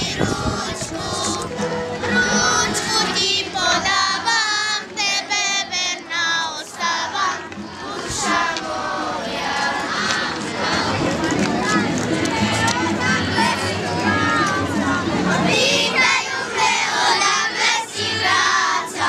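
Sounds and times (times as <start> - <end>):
children singing in unison: 0.0 - 19.0.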